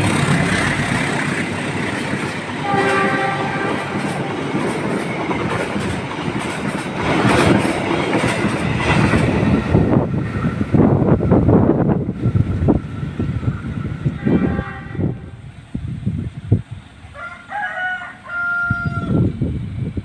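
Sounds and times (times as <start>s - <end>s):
train coaches rushing past: 0.0s - 18.2s.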